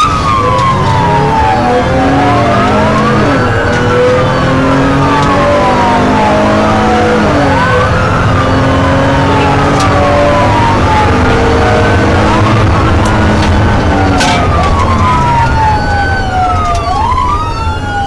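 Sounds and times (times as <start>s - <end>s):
low engine and road rumble: 0.0s - 18.0s
police sirens wailing: 0.0s - 18.0s.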